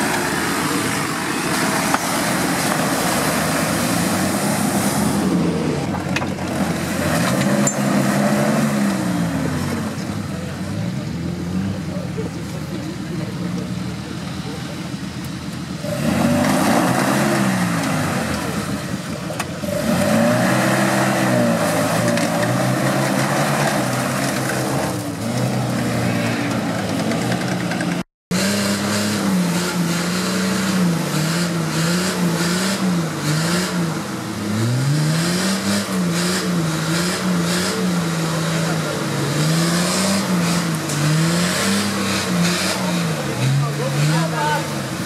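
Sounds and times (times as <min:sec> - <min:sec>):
off-road engines revving: 0:00.0 - 0:45.0.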